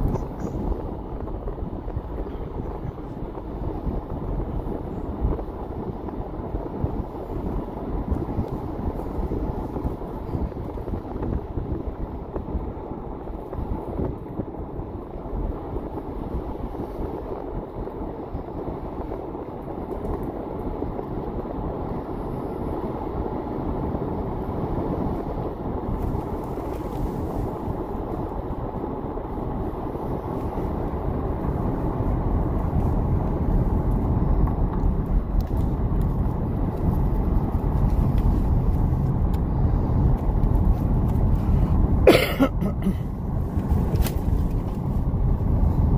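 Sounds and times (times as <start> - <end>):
vehicle road noise and engine rumble: 0.0 - 45.9.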